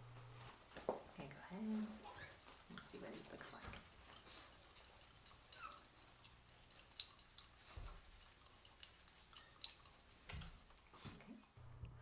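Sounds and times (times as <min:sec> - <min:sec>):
dog chewing and licking: 0:01.9 - 0:11.6.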